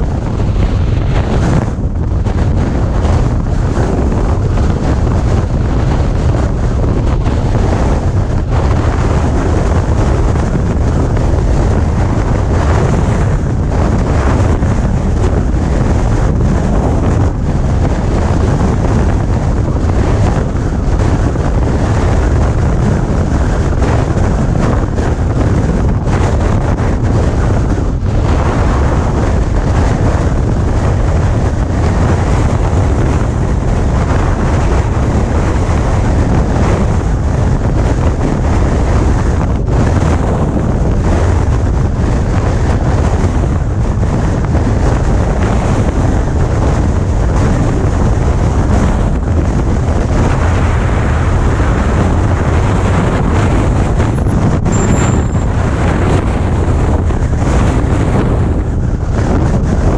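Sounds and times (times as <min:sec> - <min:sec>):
loud wind noise on microphone: 0:00.0 - 0:59.9.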